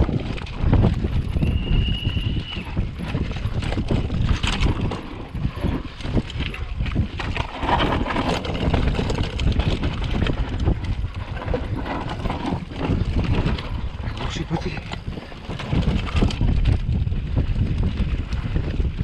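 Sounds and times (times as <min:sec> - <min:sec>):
bike rattling and clattering: 0:00.0 - 0:19.0
bike tyres crunching over stones: 0:00.0 - 0:19.0
wind rumble on microphone: 0:00.0 - 0:19.0.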